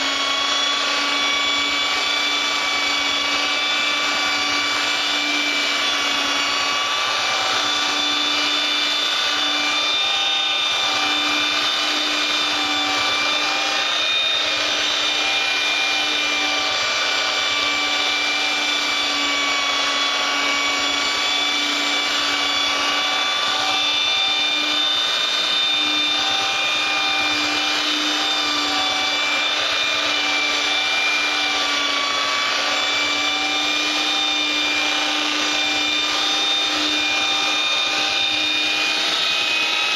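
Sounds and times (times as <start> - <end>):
power sander motor whine: 0.0 - 39.9.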